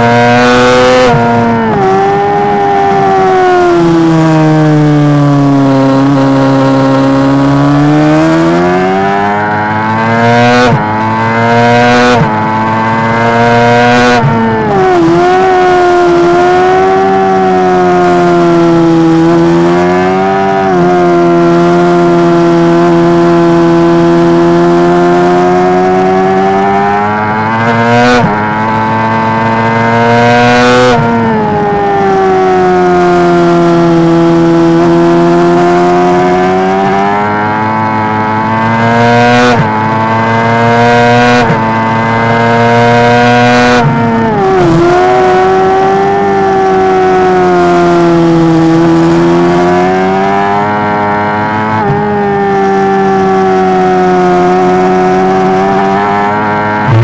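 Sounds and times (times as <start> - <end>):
motorcycle engine at racing speed: 0.0 - 57.0.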